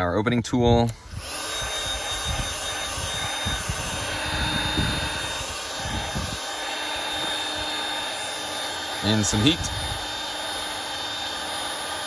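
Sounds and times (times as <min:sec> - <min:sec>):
hot-air blower with high whine: 0:00.6 - 0:12.0.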